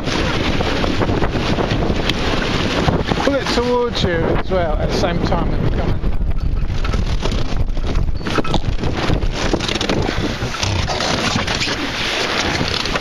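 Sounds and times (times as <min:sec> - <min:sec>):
water splashing against hull: 0:00.0 - 0:13.0
wind buffeting microphone: 0:00.0 - 0:13.0.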